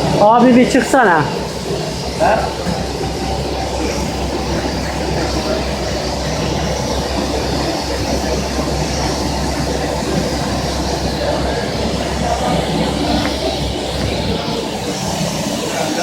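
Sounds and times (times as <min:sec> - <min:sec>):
pipe extrusion machine running: 0:00.0 - 0:16.0.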